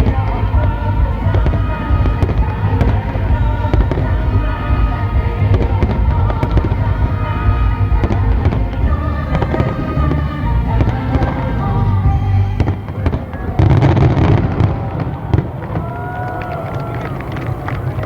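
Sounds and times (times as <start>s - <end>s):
loud music: 0.0s - 15.6s
fireworks bangs and crackles: 0.0s - 18.0s.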